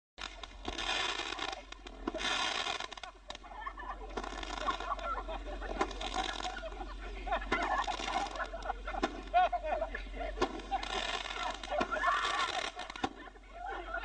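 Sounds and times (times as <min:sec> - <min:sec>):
fireworks hissing: 0:00.2 - 0:13.9.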